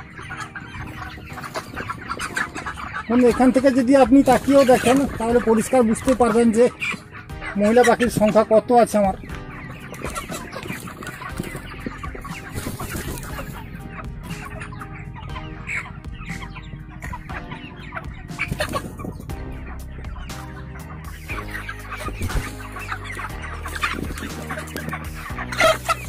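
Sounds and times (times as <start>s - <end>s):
chickens clucking and cheeping: 0.0s - 26.0s.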